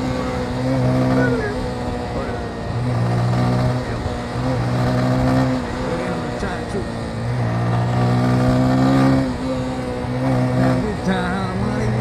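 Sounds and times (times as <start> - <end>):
motorcycle engine riding: 0.0 - 12.0.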